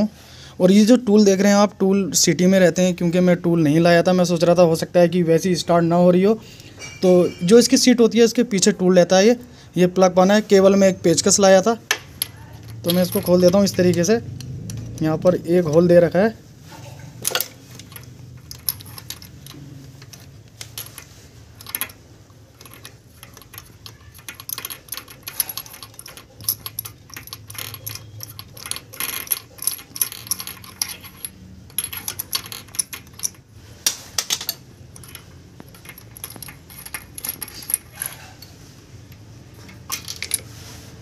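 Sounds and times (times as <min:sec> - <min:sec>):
spanner clinking and scraping: 0:02.2 - 0:09.4, 0:10.2 - 0:41.0.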